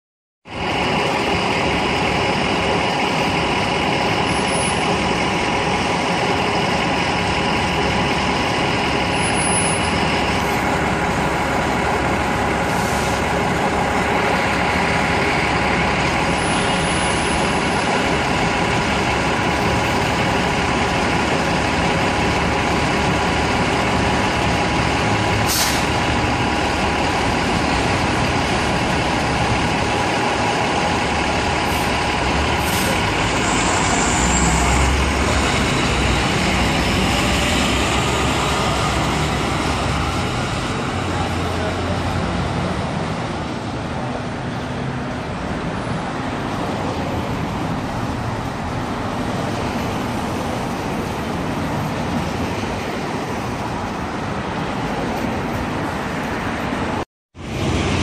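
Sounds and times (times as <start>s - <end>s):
bus engine idling: 0.5s - 58.0s.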